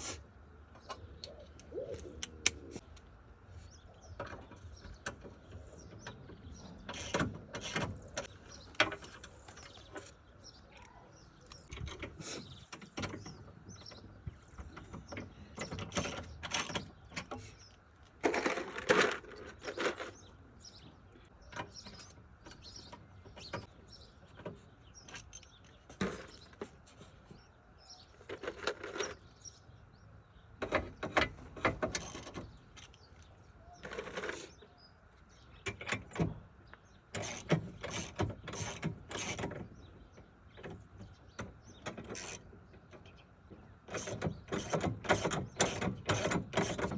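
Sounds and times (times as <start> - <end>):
hand tools and metal parts clanking: 0.0 - 29.8, 30.5 - 46.9.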